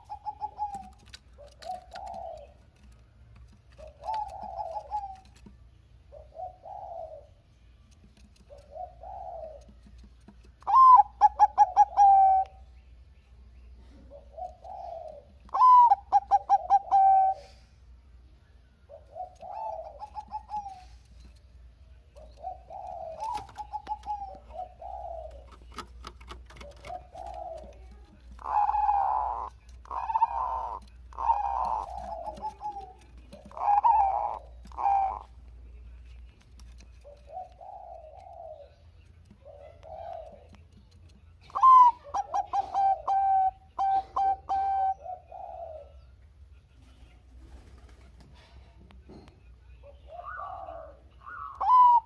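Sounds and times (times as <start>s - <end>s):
doves cooing: 0.0s - 7.4s, 8.2s - 12.6s, 13.8s - 17.6s, 18.9s - 21.4s, 22.1s - 35.5s, 36.6s - 46.1s, 49.8s - 52.0s.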